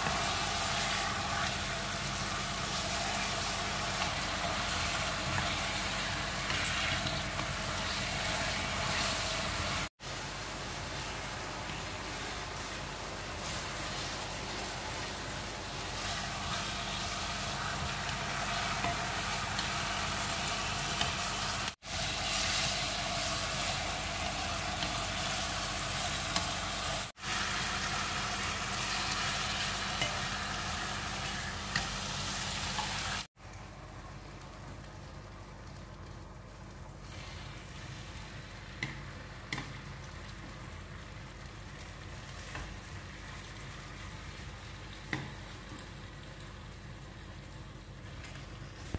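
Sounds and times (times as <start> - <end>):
pork sizzling in a pan: 0.0 - 48.9.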